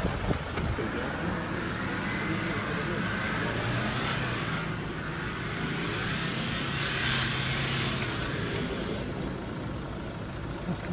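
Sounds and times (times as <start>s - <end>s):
engine running under load: 0.0s - 10.9s.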